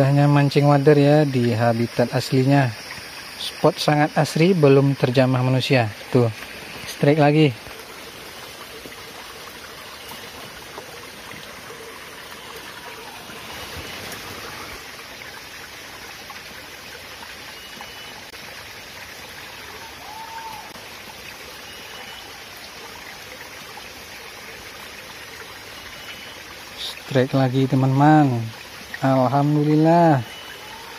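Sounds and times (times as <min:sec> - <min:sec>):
stream trickling over rocks: 0:00.0 - 0:30.9.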